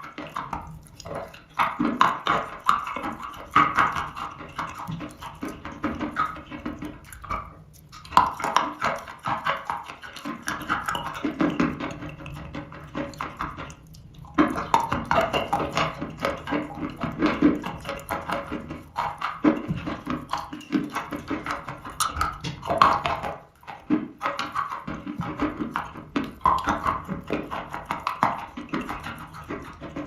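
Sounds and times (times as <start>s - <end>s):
chewing dry chalk: 0.0s - 30.0s.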